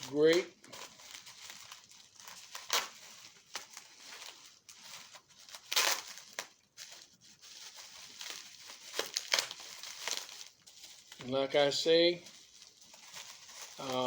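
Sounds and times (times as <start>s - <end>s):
packing material crinkling: 0.0s - 14.0s.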